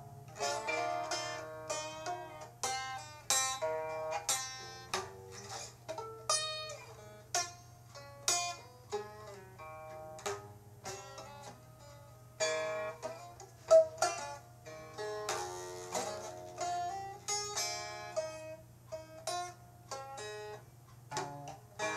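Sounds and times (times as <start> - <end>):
plucked string instrument: 0.0 - 21.9.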